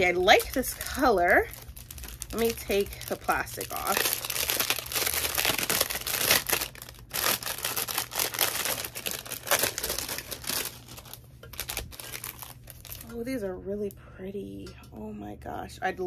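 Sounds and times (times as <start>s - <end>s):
plastic wrapping crinkling and tearing: 0.0s - 13.4s.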